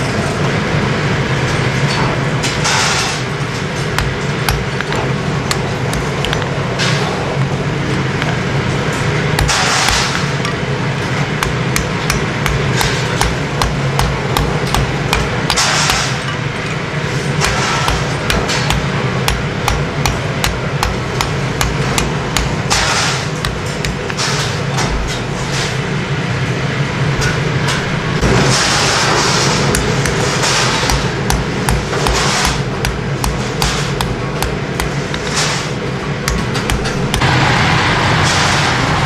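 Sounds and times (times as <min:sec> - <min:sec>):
hammer striking metal: 0:01.9 - 0:07.2, 0:09.4 - 0:10.6, 0:11.4 - 0:25.9, 0:27.2 - 0:37.6.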